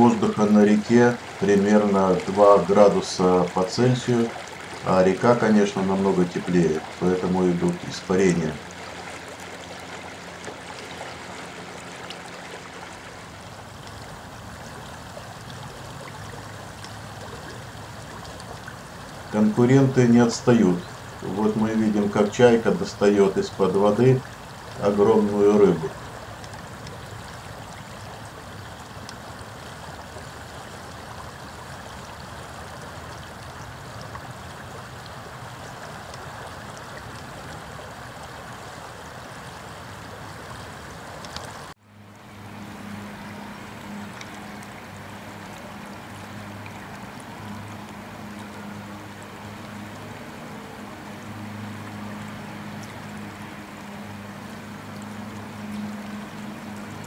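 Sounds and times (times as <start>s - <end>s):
low steady hum: 0.0s - 57.0s
river water rushing: 0.0s - 57.0s.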